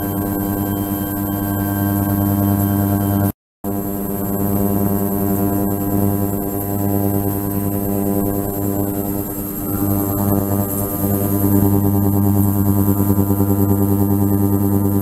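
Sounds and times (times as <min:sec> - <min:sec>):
ultrasonic cleaner buzzing hum: 0:00.0 - 0:15.0.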